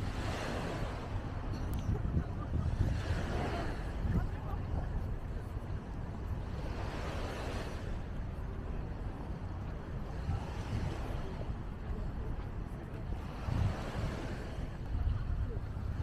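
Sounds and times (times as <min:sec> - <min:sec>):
surf washing onto beach: 0:00.0 - 0:16.0
wind rumbling on microphone: 0:00.0 - 0:16.0.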